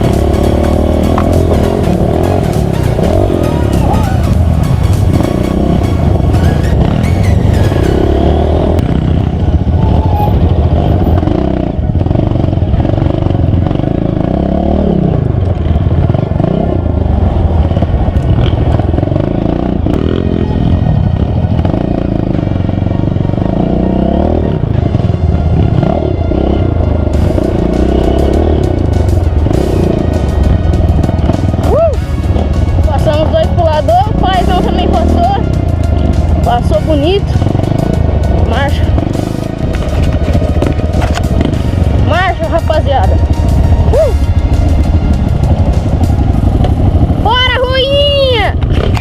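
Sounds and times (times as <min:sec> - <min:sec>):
off-road vehicle engine revving: 0:00.0 - 0:49.0.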